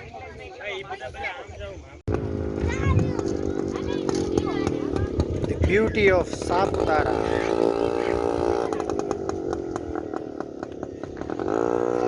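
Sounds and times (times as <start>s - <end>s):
small motorbike engine revving: 2.1s - 12.0s.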